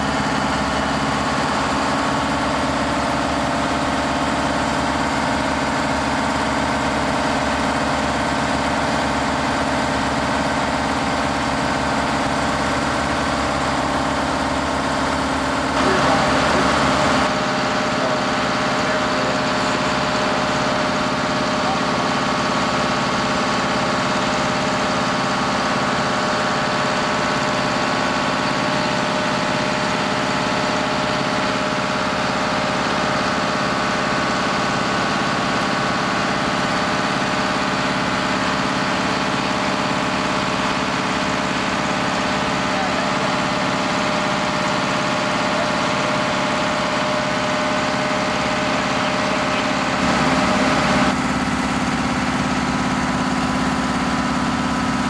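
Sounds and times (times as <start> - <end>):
fire engine motor running: 0.0 - 55.0.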